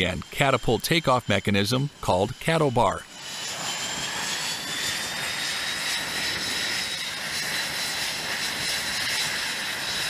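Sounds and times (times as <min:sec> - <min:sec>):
jet engine rushing with high whine: 0:00.0 - 0:10.0.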